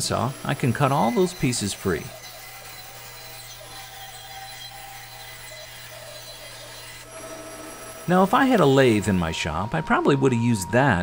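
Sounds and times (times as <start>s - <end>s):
bandsaw cutting wood: 0.0s - 10.1s.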